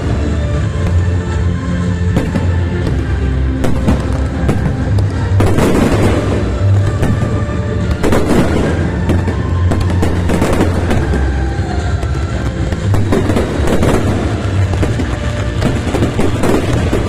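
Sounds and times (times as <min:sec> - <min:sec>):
fireworks bursting and crackling: 0:00.0 - 0:17.0
music: 0:00.0 - 0:17.0.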